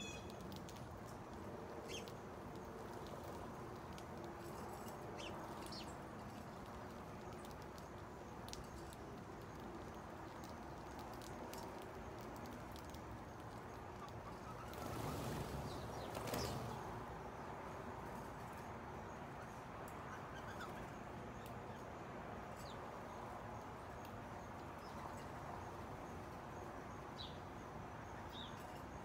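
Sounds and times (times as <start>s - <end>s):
birds pecking seed: 0.0s - 29.0s.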